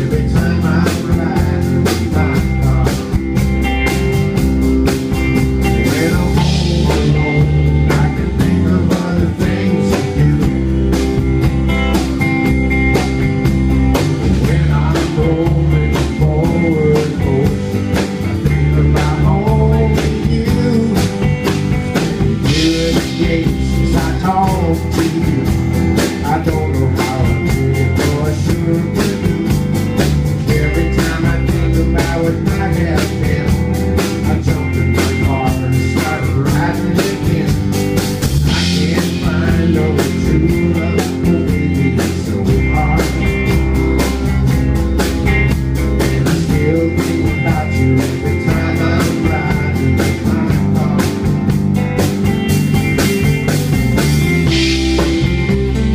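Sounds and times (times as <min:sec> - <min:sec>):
man singing: 0:00.0 - 0:04.4, 0:05.1 - 0:11.5, 0:14.0 - 0:44.3, 0:45.8 - 0:51.6
drum kit beat: 0:00.0 - 0:55.9.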